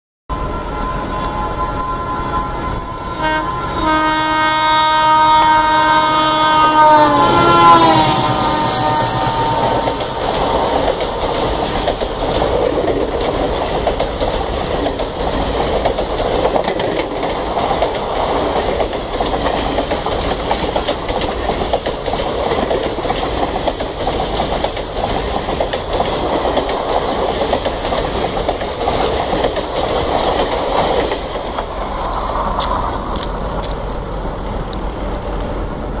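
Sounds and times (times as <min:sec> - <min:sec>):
train wheels rumbling and clattering: 0:06.0 - 0:36.0.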